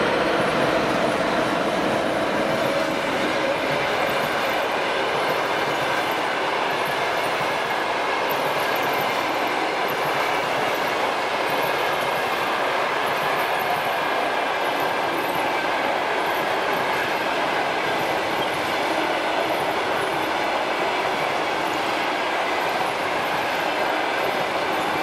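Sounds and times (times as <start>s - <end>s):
electric locomotive hum: 0.0s - 25.0s
train wheels rumbling on rails: 0.0s - 25.0s.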